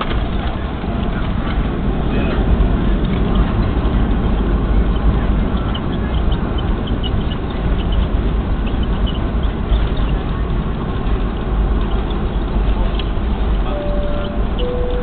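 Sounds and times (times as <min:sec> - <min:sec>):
deep runway rumble: 0:00.0 - 0:15.0
roar of engines and rushing air: 0:00.0 - 0:15.0.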